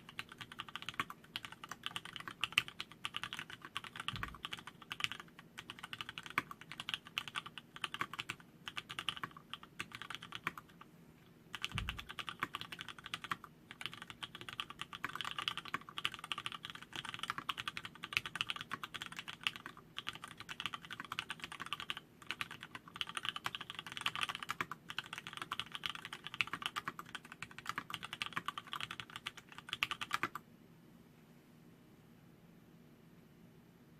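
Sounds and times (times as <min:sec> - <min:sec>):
fast mechanical keyboard typing: 0:00.0 - 0:10.8, 0:11.5 - 0:30.4.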